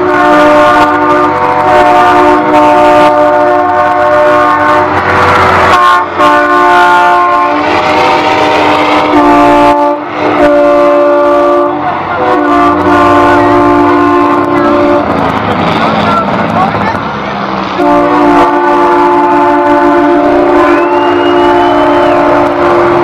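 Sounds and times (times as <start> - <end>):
truck air horn blasts: 0.0 - 15.2, 17.8 - 23.0
passing trucks rumbling: 0.0 - 23.0.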